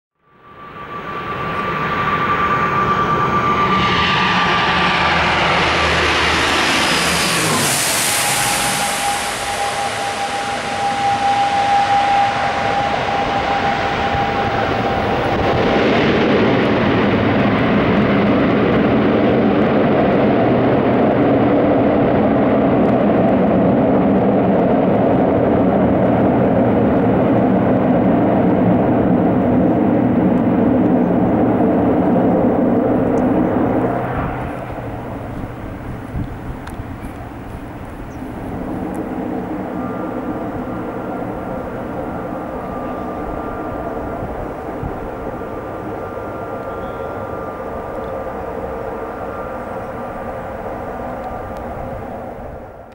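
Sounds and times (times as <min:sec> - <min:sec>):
aircraft engine whine: 0:00.2 - 0:52.9
loud propeller drone: 0:00.2 - 0:52.9.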